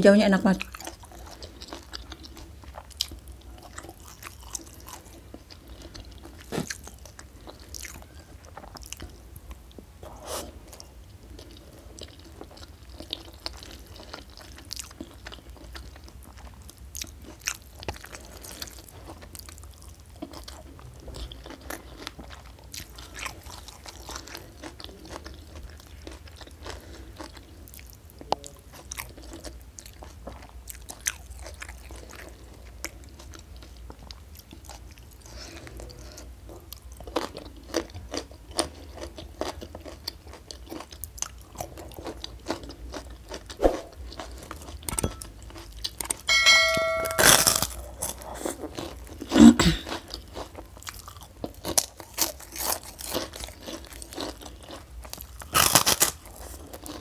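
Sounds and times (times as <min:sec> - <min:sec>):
close chewing with crunches: 0:00.6 - 0:46.3, 0:47.4 - 0:57.0.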